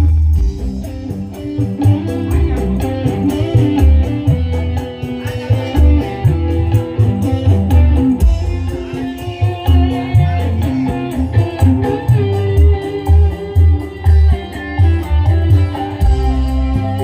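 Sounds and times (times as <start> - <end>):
deep bass: 0.0 - 17.0
electric guitar melody: 0.0 - 17.0
steady drum beat: 0.0 - 17.0.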